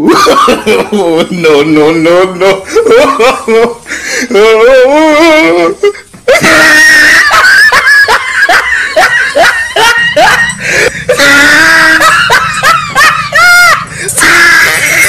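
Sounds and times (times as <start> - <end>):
high-pitched squealing laughter: 0.0 - 15.0.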